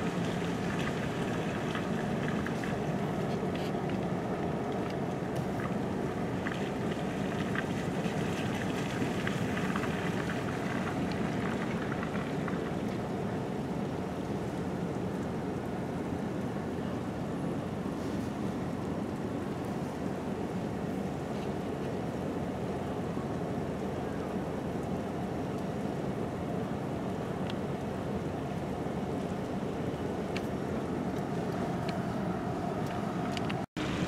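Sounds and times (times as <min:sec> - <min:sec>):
car engine rumble from inside: 0:00.0 - 0:34.0.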